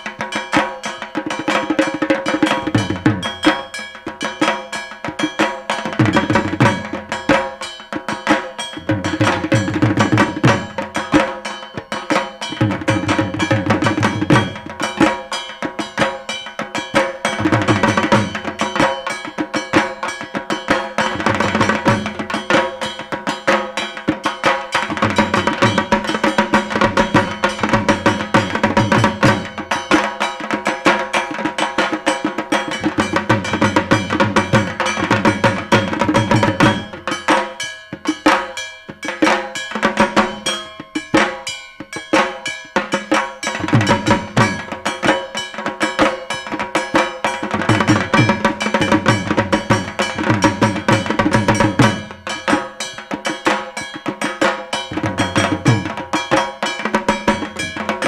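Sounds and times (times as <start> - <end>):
barrel drum beaten with sticks: 0.0 - 58.0
ringing metallic sound: 0.0 - 58.0.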